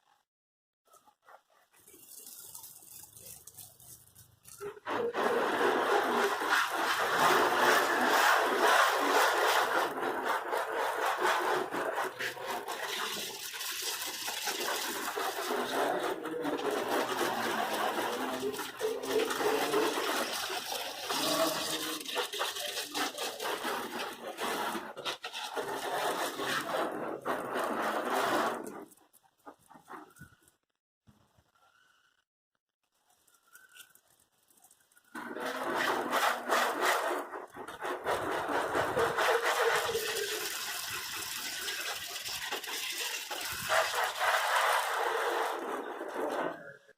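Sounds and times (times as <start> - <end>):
water spraying onto car: 1.0 - 30.1, 33.3 - 46.8.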